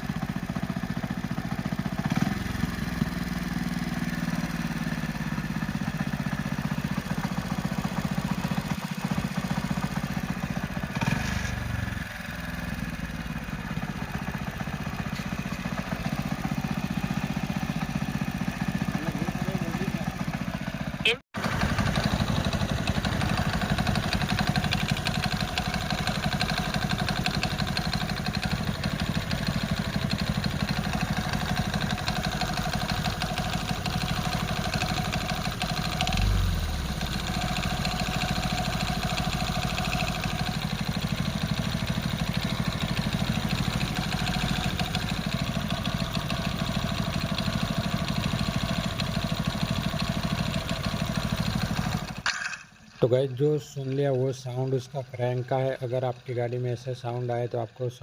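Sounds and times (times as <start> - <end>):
motorcycle engine running: 0.0 - 52.8
abnormal engine noise: 2.0 - 58.0.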